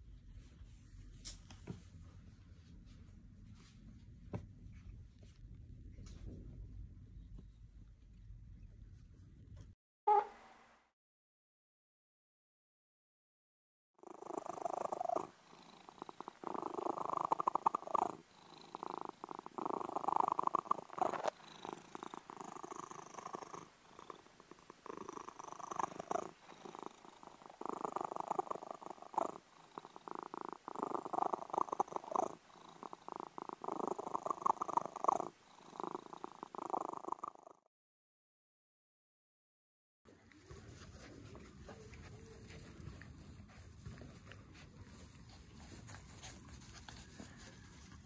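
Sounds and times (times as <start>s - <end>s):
cat purring: 2.0s - 10.2s, 14.0s - 37.7s, 40.1s - 48.0s.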